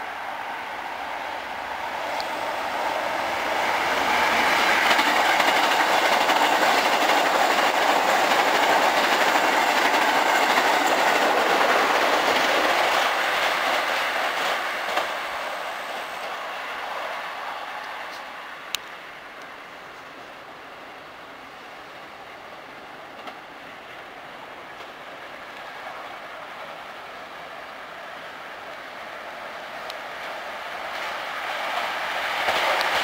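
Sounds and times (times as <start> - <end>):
train passing with wheel rumble: 0.0 - 33.0.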